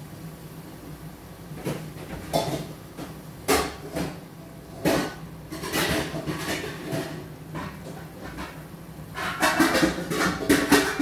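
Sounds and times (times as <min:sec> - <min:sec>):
kitchenware clattering: 0:01.7 - 0:11.0.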